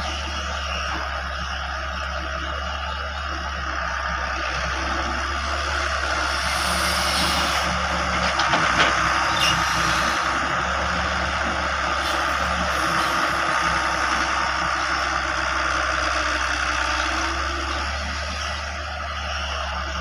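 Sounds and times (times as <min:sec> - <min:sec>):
heavy vehicle engine hum: 0:00.0 - 0:20.0
road noise hiss: 0:00.0 - 0:20.0.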